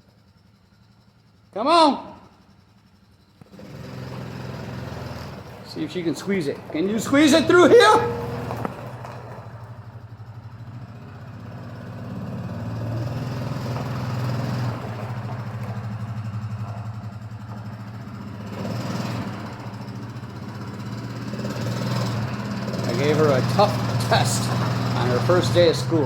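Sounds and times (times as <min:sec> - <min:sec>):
utility vehicle engine running: 0:00.0 - 0:26.0.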